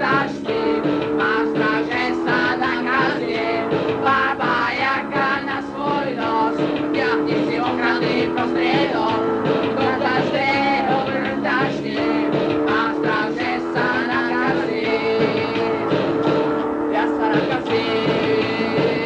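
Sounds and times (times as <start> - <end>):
guitar: 0.0 - 19.0
person singing: 0.0 - 19.0
punk rock band playing: 0.0 - 19.0.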